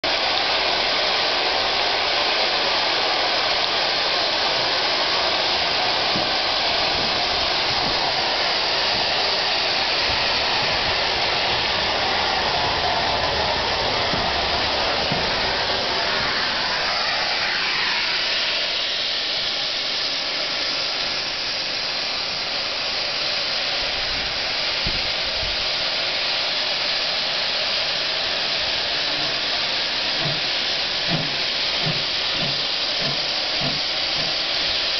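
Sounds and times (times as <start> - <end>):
steam locomotive hissing steam: 0.0 - 34.9.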